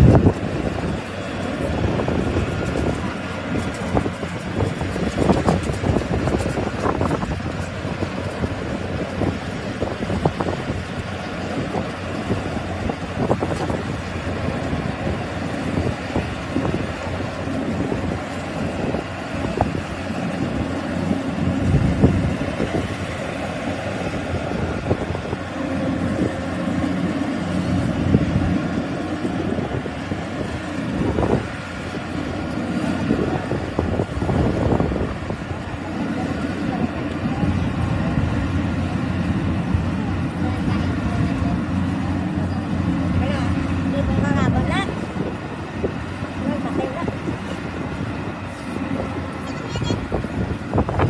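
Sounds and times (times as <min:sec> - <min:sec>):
harvester engine running: 0:00.0 - 0:51.0
wind buffeting microphone: 0:00.0 - 0:51.0.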